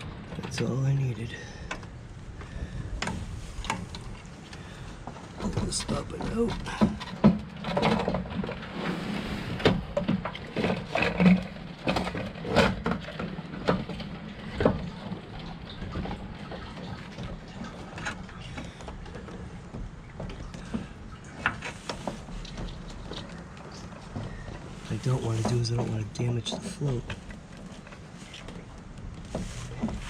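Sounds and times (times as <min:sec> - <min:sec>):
knocks clicks and scrapes of fuel pump: 0:00.0 - 0:30.0.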